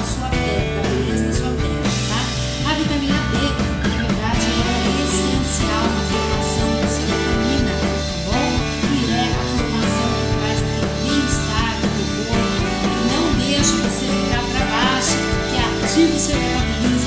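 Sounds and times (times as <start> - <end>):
song with singing: 0.0 - 17.0.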